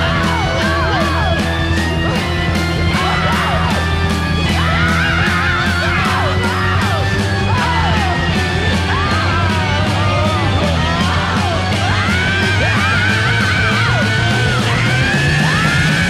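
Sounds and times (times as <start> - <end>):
rock music with shouted vocals: 0.0 - 16.0.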